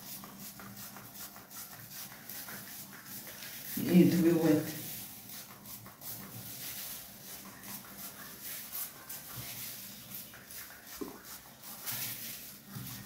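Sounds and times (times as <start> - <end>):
spray bottle spritzing water: 0.0 - 13.0.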